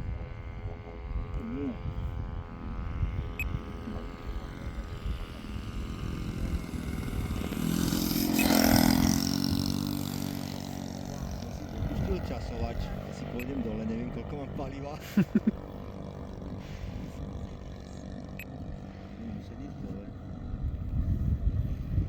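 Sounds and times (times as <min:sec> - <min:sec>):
model plane engine droning: 0:00.0 - 0:22.0.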